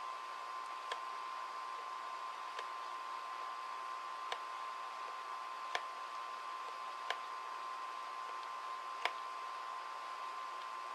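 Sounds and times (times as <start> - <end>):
electronic hiss with whine: 0.0 - 10.9.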